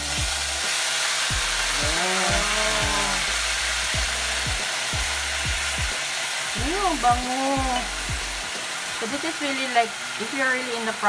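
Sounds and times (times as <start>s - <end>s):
faint background music with beat: 0.0s - 10.5s
fish sizzling in hot oil: 0.0s - 11.0s.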